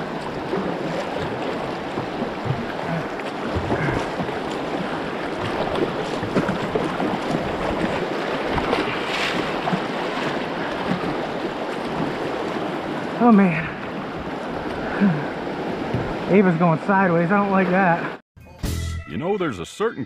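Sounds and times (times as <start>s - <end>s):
water splashing against kayak: 0.0s - 18.2s.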